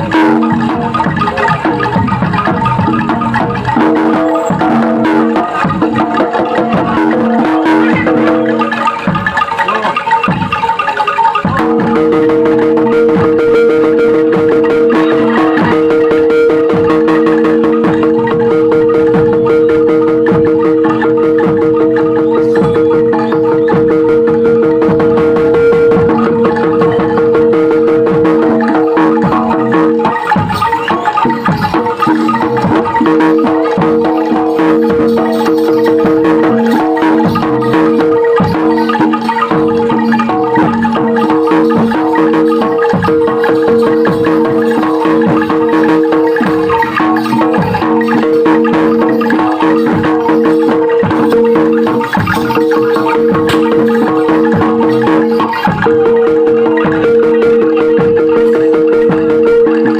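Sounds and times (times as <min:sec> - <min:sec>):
dense beat: 0:00.0 - 0:59.9
xylophone-like mallet melody: 0:00.0 - 0:59.9.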